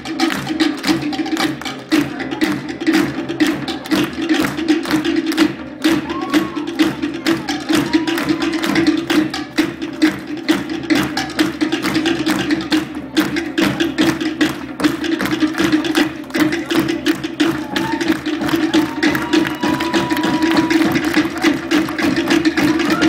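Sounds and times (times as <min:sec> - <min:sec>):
drum ensemble playing fast rhythm: 0:00.0 - 0:23.0.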